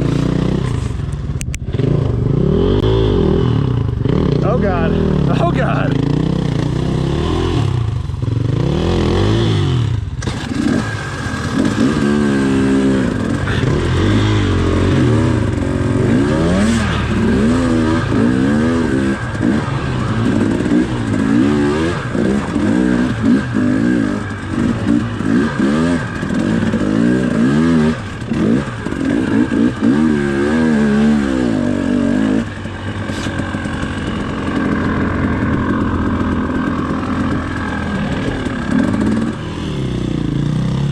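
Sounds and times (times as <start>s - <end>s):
dirt bike engine revving: 0.0s - 1.0s, 1.6s - 40.9s.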